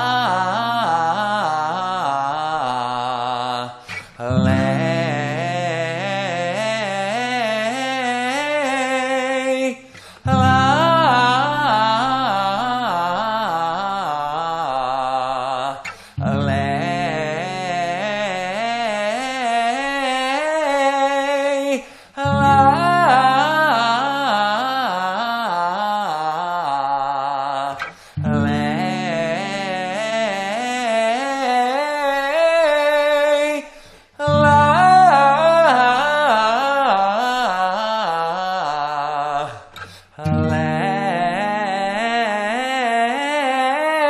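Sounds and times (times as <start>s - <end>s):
person singing vocal scale: 0.0s - 44.0s.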